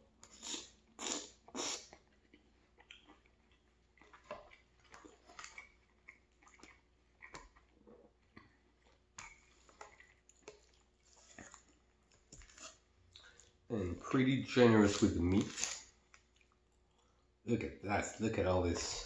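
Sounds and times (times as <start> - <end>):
close chewing with mouth sounds: 0.0 - 13.7, 14.8 - 17.4.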